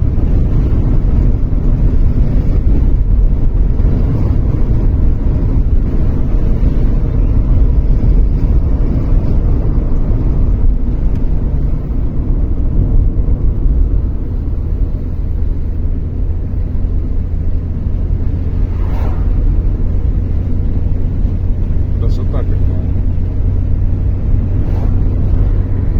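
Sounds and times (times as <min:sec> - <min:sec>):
car engine rumble: 0:00.0 - 0:25.9
tyre noise on road: 0:00.0 - 0:25.9.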